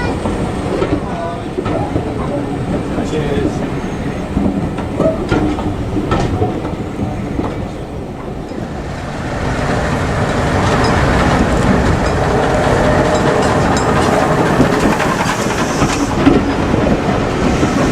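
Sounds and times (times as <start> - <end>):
train wheels clicking over rails: 0.0 - 17.9.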